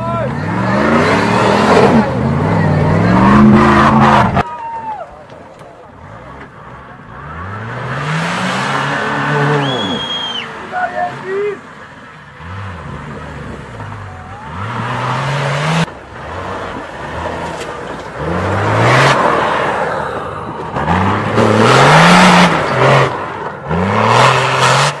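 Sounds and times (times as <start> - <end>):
suv engine revving: 0.0 - 4.4, 6.0 - 25.0.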